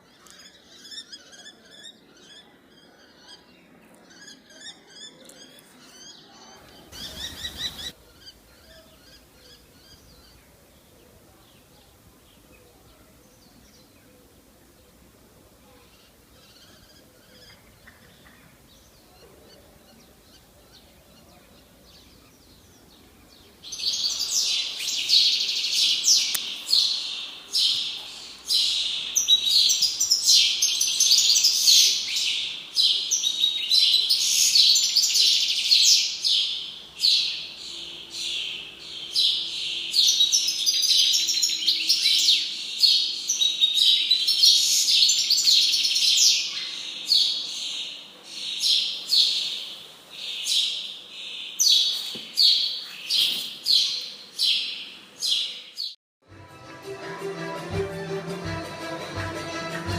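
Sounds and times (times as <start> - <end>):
small birds chirping and twittering: 0.0 - 56.0.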